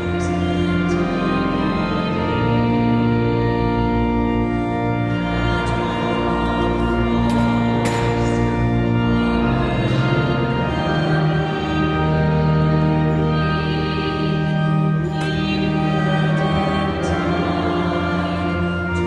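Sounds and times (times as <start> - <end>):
organ playing sustained chords: 0.0 - 19.0.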